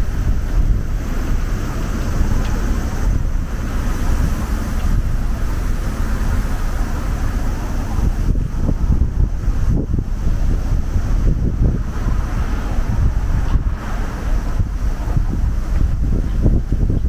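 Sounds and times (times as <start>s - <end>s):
steady street hiss: 0.0s - 17.0s
wind buffeting microphone: 0.0s - 17.0s.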